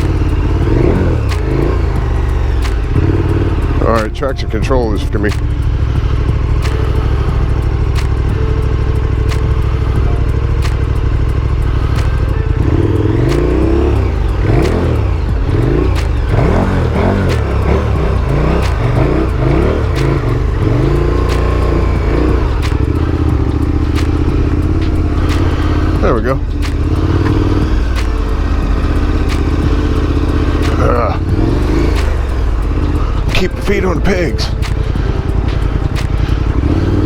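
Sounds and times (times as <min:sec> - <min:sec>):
motorcycle engine revving: 0:00.0 - 0:37.0
sharp ticks: 0:00.0 - 0:37.0.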